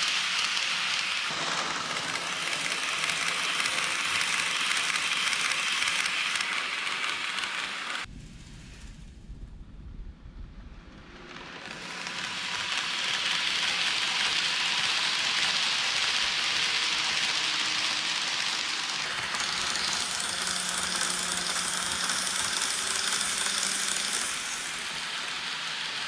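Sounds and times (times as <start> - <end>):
model train wheels rattling on rails: 0.0 - 8.1, 11.0 - 26.0.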